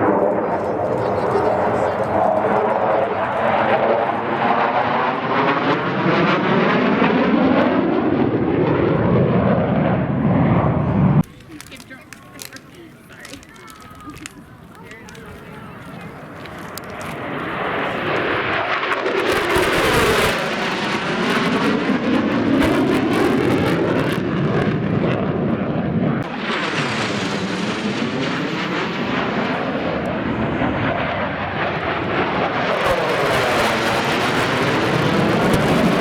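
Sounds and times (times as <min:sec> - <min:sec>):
aircraft flying low roar: 0:00.0 - 0:11.6, 0:14.0 - 0:36.0.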